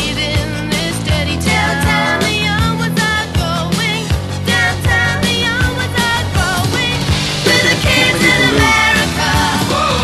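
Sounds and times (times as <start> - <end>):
pop song with vocals: 0.0 - 10.0.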